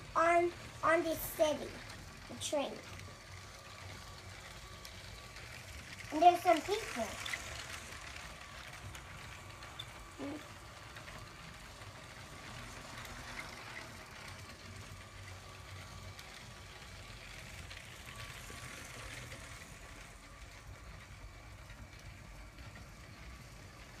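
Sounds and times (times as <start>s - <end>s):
toy train motor whirring: 0.0s - 24.0s.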